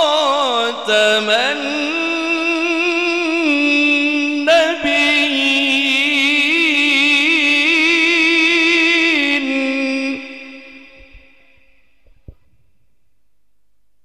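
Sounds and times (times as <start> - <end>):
man reciting melodically with reverb: 0.0 - 12.1.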